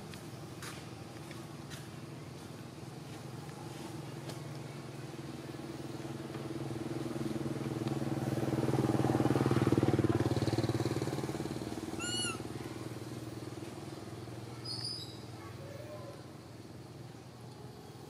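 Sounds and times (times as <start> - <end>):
passing vehicle engine hum: 0.0 - 18.0.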